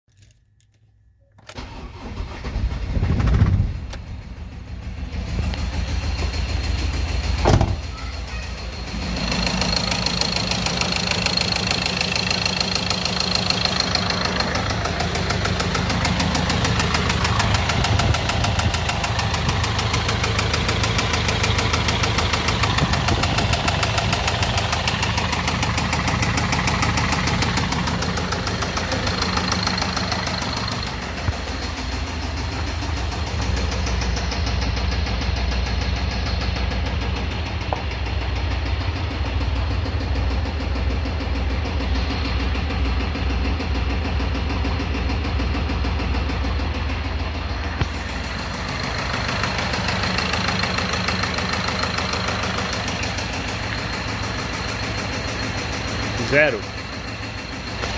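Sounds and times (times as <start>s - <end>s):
diesel engine with rod knock: 2.9s - 57.9s.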